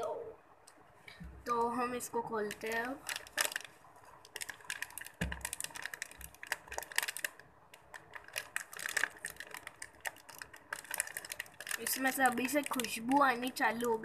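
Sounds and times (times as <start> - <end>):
plastic wrapper crinkling: 1.5 - 14.0.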